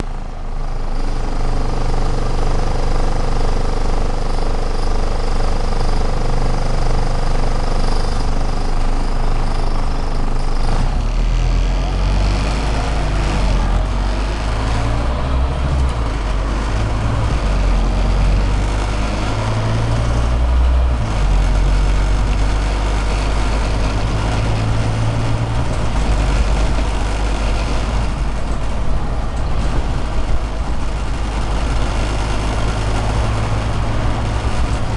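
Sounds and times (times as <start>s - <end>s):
bus engine droning: 0.0s - 34.9s.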